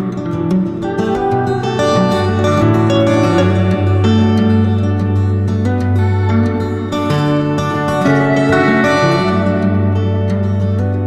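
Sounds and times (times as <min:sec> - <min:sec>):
plucked strings music: 0:00.0 - 0:11.0.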